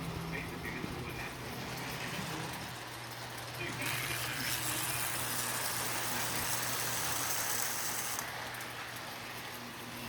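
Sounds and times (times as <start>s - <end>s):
toy train low hum: 0.0s - 10.0s.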